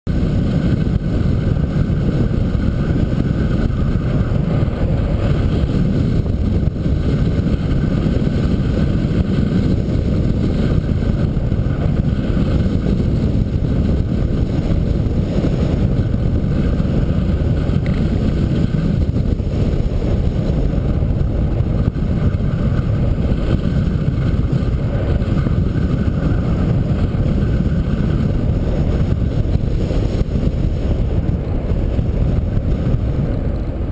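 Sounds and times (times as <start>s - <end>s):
car driving on paved road: 0.0s - 33.9s.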